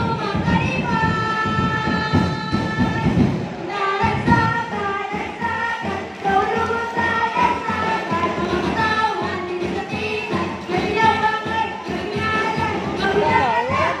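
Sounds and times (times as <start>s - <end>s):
dense drum beat: 0.0s - 14.0s
group of voices singing: 0.0s - 14.0s.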